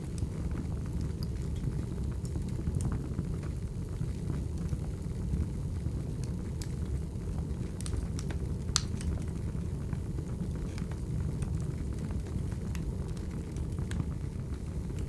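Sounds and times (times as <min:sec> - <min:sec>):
fire rumbling: 0:00.0 - 0:15.0.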